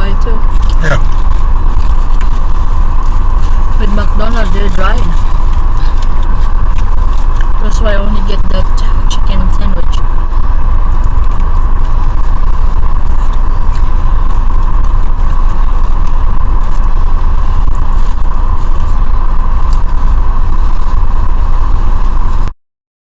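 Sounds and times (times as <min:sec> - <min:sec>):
car engine rumbling: 0:00.0 - 0:22.5.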